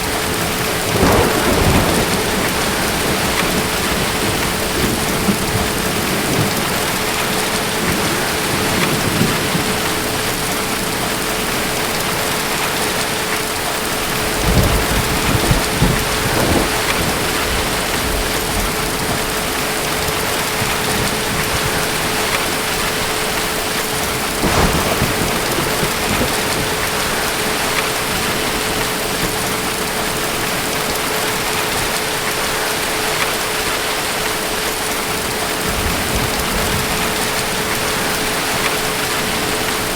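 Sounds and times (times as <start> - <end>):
steady rain hissing: 0.0 - 39.9
thunder rumbling: 0.0 - 39.9.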